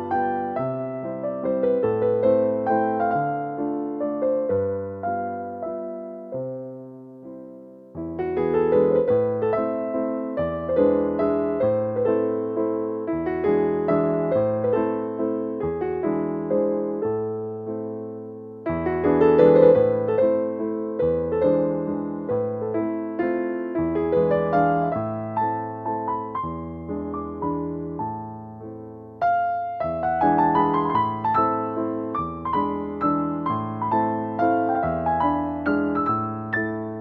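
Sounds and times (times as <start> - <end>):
electric piano piece: 0.0 - 37.0.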